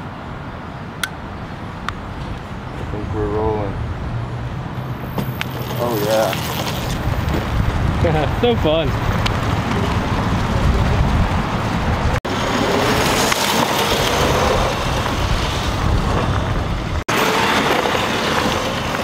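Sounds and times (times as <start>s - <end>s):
tyre and wind noise: 0.0s - 19.0s.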